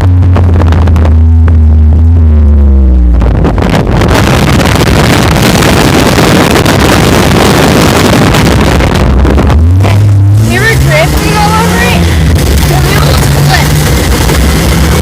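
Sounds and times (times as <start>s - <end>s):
vehicle engine running: 0.0s - 15.0s
wind noise on microphone: 0.0s - 15.0s.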